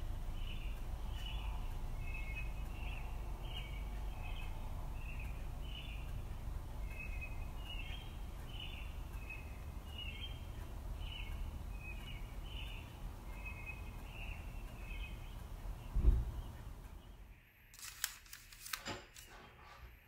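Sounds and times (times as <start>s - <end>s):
low background rumble: 0.0s - 17.4s
small bird chirping: 0.0s - 17.4s.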